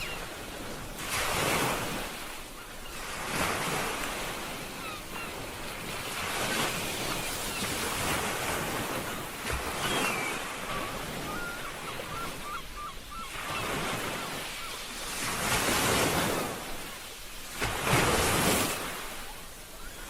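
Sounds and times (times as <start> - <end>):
ocean waves washing onto beach: 0.0 - 20.0.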